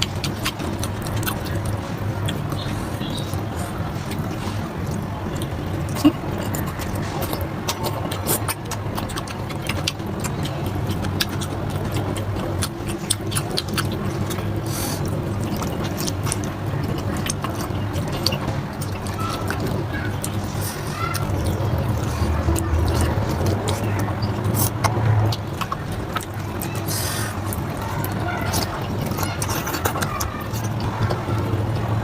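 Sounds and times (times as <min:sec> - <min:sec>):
low background hum: 0:00.0 - 0:32.0
wet chewing and lip-smacking: 0:00.0 - 0:32.0.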